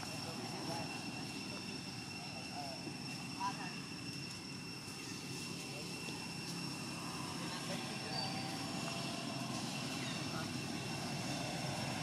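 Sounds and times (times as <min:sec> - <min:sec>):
thin high steady tone: 0:00.0 - 0:12.0.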